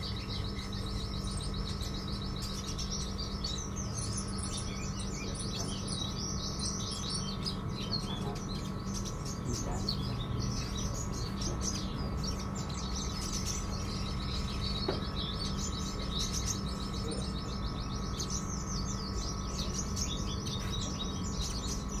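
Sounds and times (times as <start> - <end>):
songbird chirping and trilling: 0.0 - 22.0
steady low hum: 0.0 - 22.0.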